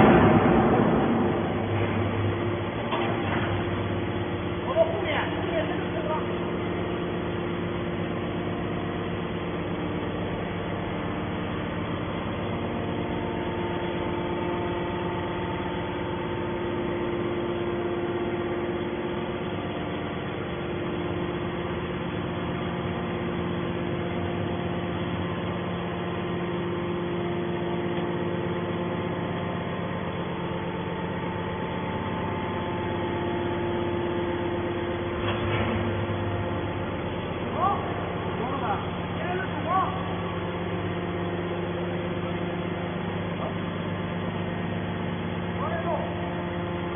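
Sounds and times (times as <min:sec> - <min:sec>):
hydraulic pump humming: 0:00.0 - 0:46.9.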